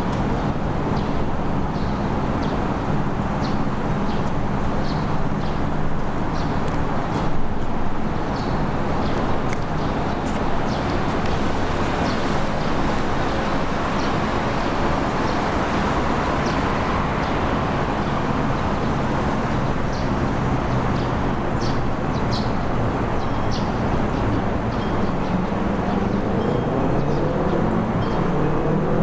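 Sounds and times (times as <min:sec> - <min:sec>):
city traffic noise: 0:00.0 - 0:29.0.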